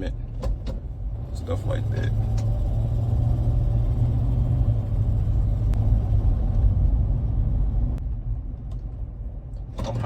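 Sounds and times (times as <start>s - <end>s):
vehicle rumble from inside cab: 0.0s - 10.0s.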